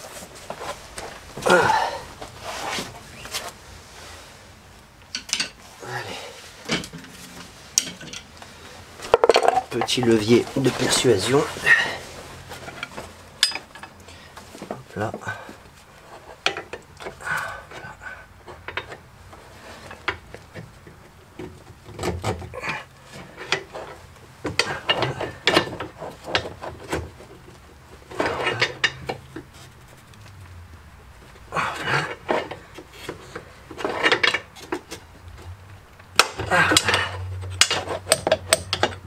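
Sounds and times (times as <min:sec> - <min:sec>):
hand tools scraping and clinking on metal: 0:05.1 - 0:39.0.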